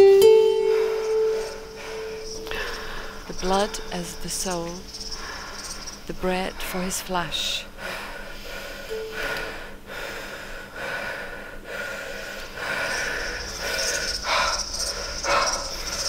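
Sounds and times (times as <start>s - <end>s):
person breathing heavily: 0.6s - 4.0s, 5.0s - 16.0s
steady hiss: 0.6s - 16.0s.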